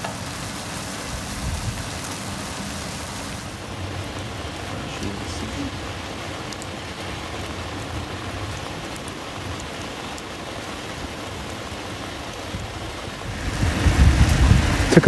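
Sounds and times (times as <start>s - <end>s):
sap boiling with bubbling hiss: 0.0s - 15.0s.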